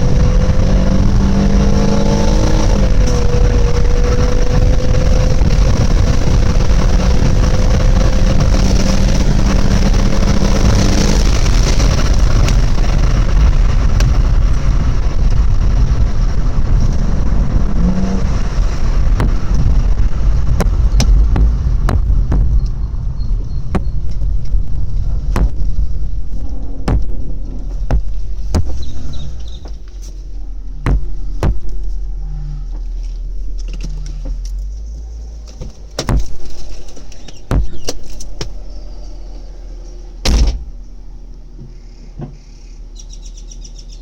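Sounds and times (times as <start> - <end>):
car engine rumble: 0.0 - 44.0.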